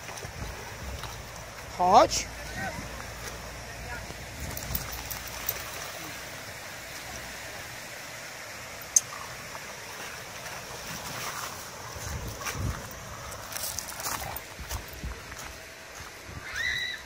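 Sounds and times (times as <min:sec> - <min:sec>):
water splashing and sloshing: 0:00.0 - 0:16.9.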